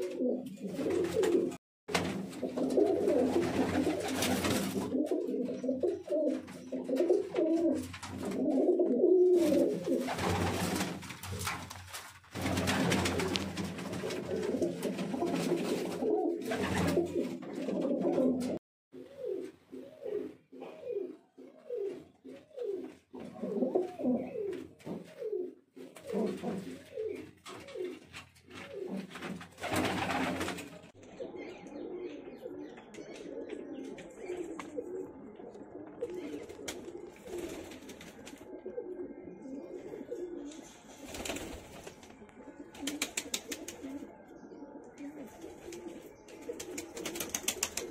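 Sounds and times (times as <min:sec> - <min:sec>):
pigeons cooing: 0:00.0 - 0:01.6, 0:02.4 - 0:11.5, 0:12.5 - 0:47.9.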